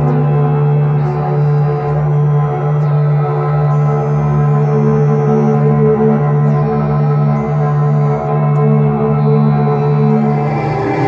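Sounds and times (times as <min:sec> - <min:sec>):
ambient drone music: 0:00.0 - 0:11.0.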